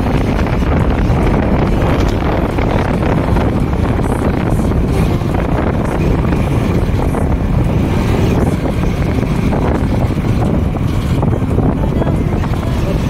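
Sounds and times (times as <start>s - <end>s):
road noise: 0.0s - 13.0s
vehicle engine: 0.0s - 13.0s
wind buffeting microphone: 0.0s - 13.0s.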